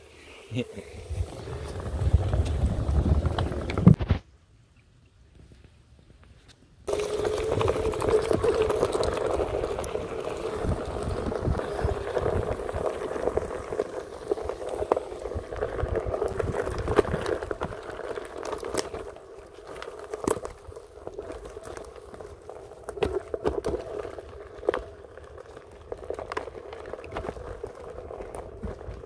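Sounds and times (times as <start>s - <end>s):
tyre crackling over dry leaves: 0.6s - 4.0s, 6.9s - 29.0s.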